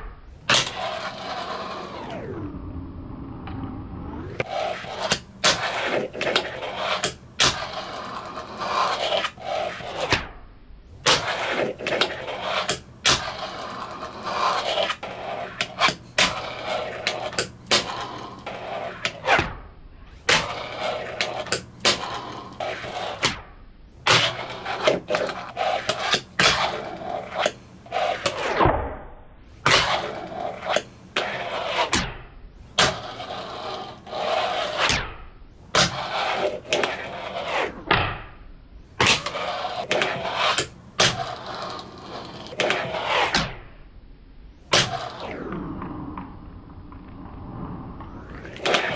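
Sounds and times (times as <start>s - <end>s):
fingerboard wheels rolling: 0.5s - 10.3s, 11.1s - 23.4s, 24.0s - 28.7s, 29.7s - 32.0s, 32.8s - 35.0s, 35.7s - 37.8s, 39.0s - 43.4s, 44.7s - 48.9s.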